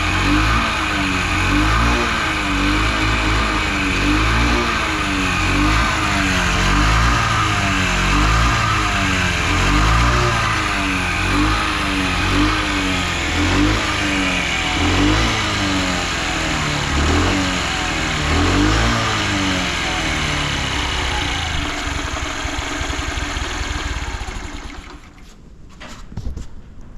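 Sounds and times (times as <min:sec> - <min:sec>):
small engine revving: 0:00.0 - 0:25.2.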